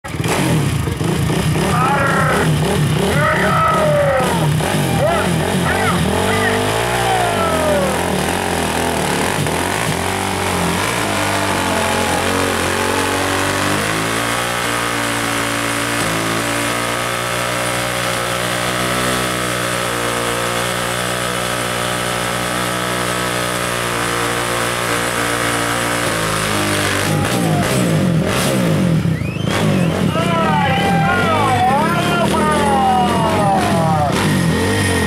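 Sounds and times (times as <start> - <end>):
atv engines revving: 0.0 - 35.0.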